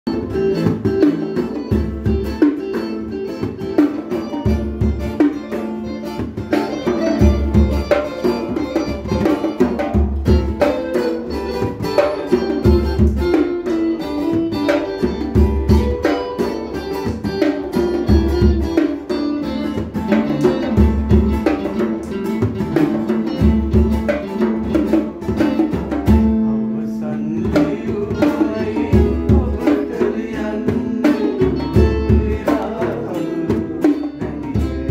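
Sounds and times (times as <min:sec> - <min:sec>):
conga drum: 0:00.0 - 0:34.9
electric guitar: 0:00.0 - 0:34.9
strummed acoustic guitar: 0:00.1 - 0:34.9.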